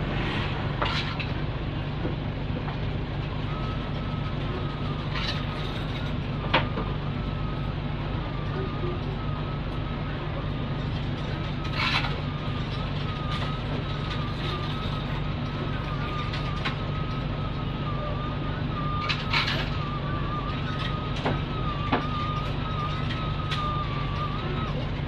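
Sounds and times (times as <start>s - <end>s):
diesel bus engine idling: 0.0s - 25.0s
steady high whine: 0.0s - 25.0s.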